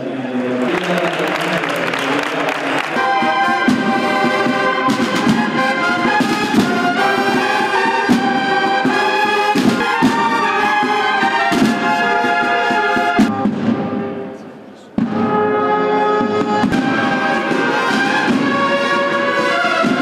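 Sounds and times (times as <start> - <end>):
trumpets holding long chords: 2.7 - 20.0
drum strokes: 2.9 - 20.0.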